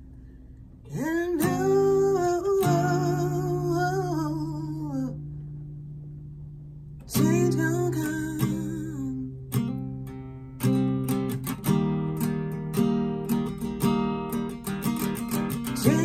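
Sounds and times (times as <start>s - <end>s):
acoustic guitar strumming: 0.9s - 5.4s, 7.0s - 16.0s.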